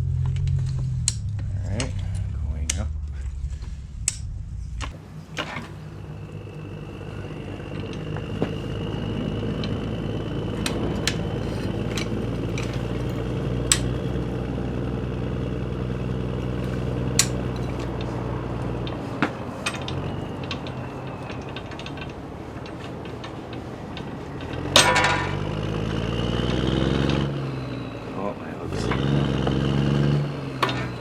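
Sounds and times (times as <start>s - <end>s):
lift motor droning: 0.0s - 31.0s
sharp metal clicks: 0.1s - 31.0s.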